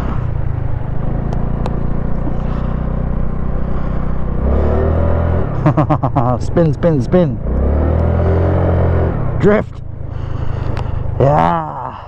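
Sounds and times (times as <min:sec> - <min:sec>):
small engine running: 0:00.0 - 0:11.6.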